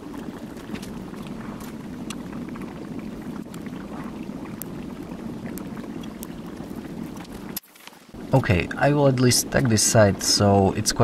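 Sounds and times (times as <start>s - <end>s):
crackles: 0.0s - 11.0s
gas torch flame roaring: 0.0s - 11.0s.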